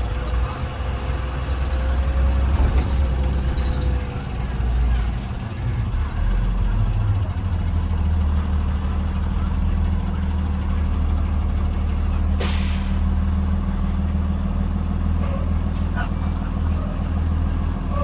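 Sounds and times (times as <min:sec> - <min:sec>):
bus engine droning: 0:00.0 - 0:18.0.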